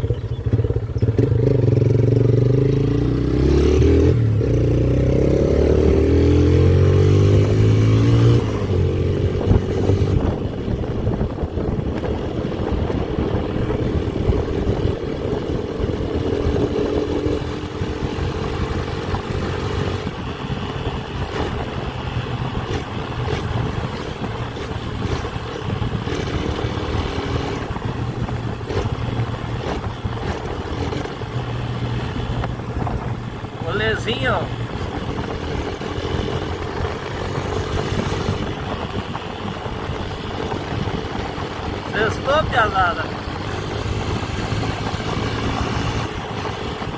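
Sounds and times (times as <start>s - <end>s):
motorcycle engine: 0.0s - 46.9s
road noise: 0.0s - 46.9s.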